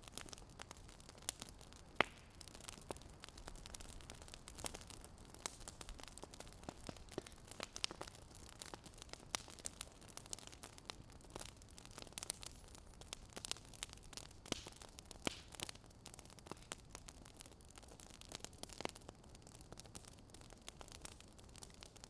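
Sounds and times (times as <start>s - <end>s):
fire crackling: 0.0s - 22.0s.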